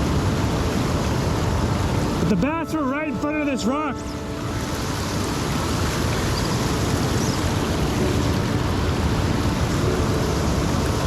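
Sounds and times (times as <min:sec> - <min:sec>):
river water rushing over rocks: 0:00.0 - 0:11.0.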